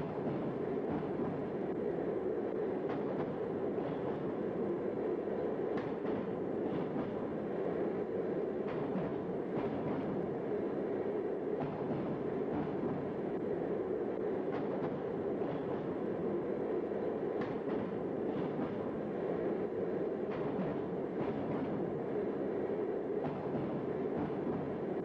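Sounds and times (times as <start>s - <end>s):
train rumbling through tunnel: 0.0s - 25.0s.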